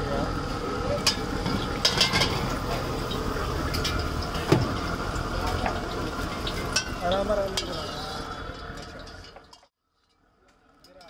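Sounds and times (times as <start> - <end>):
potatoes sizzling in hot oil: 0.0 - 9.7.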